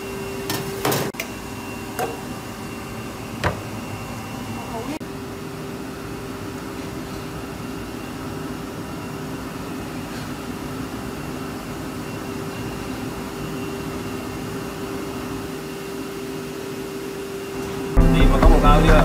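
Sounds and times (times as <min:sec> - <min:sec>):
ventilation machinery hum: 0:00.0 - 0:19.0.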